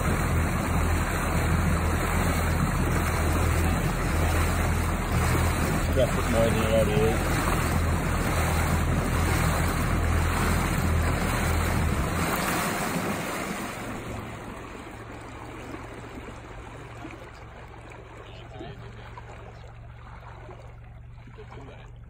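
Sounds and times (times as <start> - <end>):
boat motor humming: 0.0 - 22.0
water rushing: 0.0 - 22.0
wind: 0.0 - 22.0.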